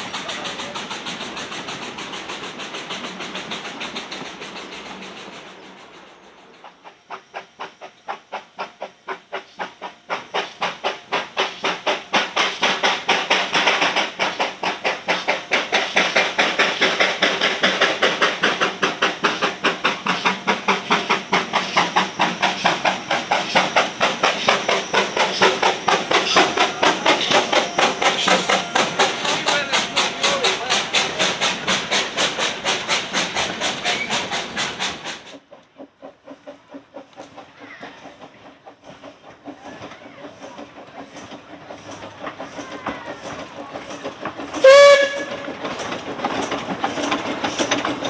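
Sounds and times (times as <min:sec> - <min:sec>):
steam locomotive exhaust beats: 0:00.0 - 0:48.0.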